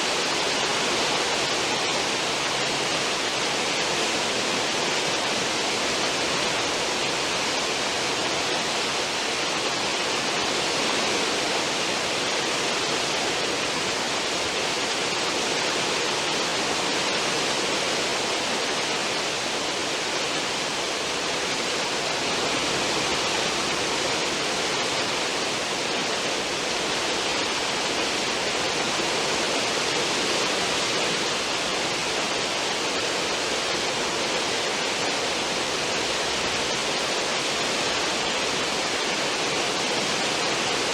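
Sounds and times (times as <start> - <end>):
churning water rushing: 0.0 - 40.9.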